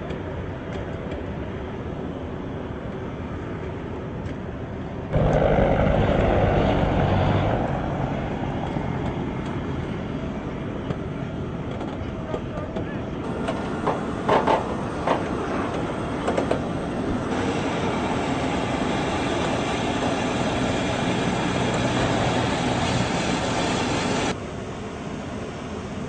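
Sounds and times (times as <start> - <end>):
tank turbine engine running: 4.9 - 26.0.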